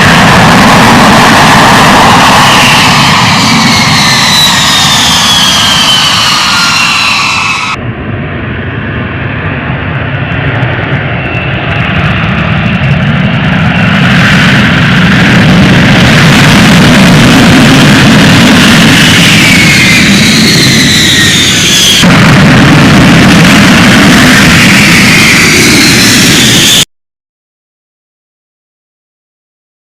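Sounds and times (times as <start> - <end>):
fighter jet engine rumbling: 0.0 - 26.9
high jet whines falling in pitch: 0.0 - 26.9.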